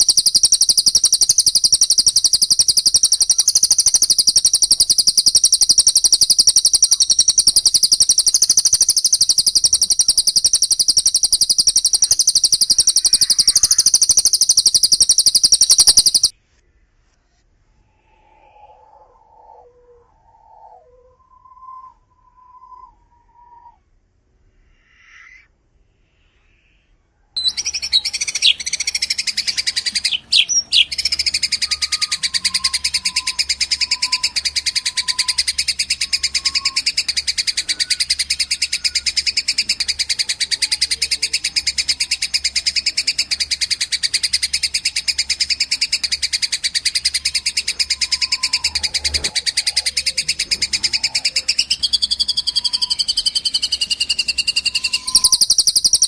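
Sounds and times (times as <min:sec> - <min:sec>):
songbirds chattering trill: 0:00.0 - 0:16.3, 0:27.4 - 0:56.0.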